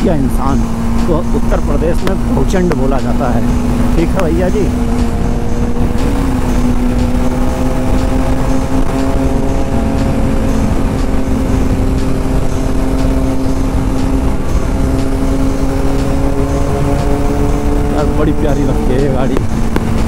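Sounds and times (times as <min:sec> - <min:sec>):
motorcycle engine cruising: 0:00.0 - 0:20.0
wind rumble on microphone: 0:00.0 - 0:20.0.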